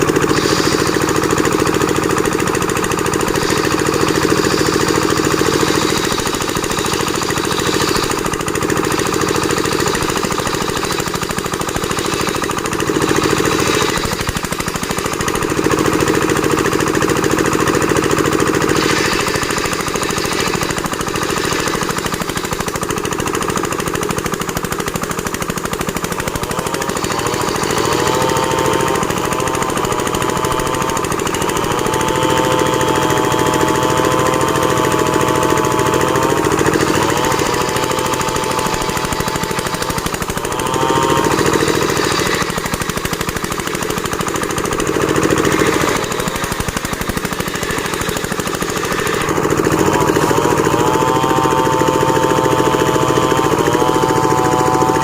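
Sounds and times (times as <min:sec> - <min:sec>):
saw whining: 0:00.0 - 0:55.0
sawmill engine chugging: 0:00.0 - 0:55.0.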